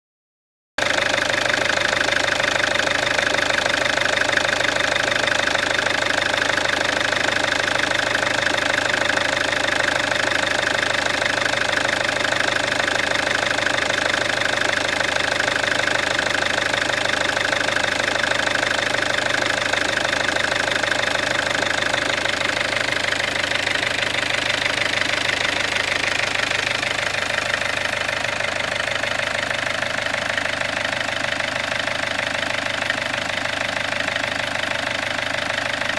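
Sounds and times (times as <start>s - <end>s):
diesel engine running: 0.8s - 35.9s.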